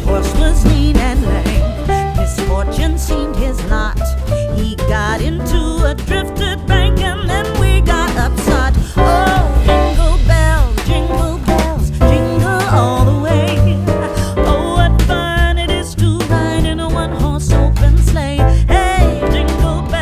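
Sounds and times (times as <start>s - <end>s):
upbeat song with vocals and guitar: 0.0s - 20.0s.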